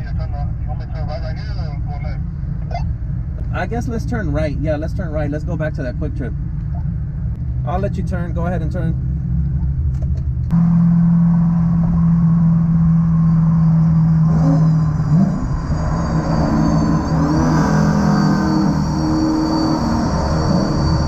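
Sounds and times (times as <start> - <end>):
car engine: 0.0 - 21.0
road noise inside car: 0.0 - 21.0.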